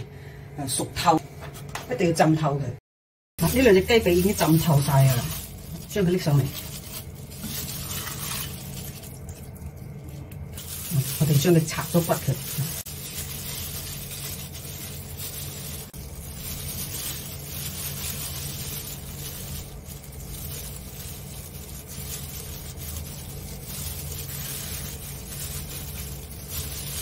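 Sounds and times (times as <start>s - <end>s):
plastic gloves rustling: 3.4s - 27.0s
steady low hum: 3.4s - 27.0s.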